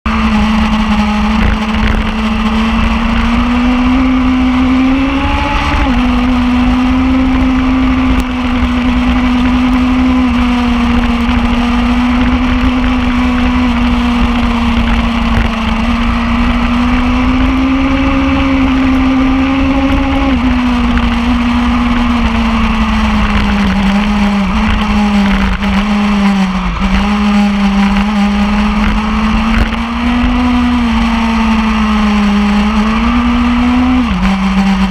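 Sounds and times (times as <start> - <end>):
motorcycle engine at high revs: 0.0 - 34.9
wind rumble: 0.1 - 34.9.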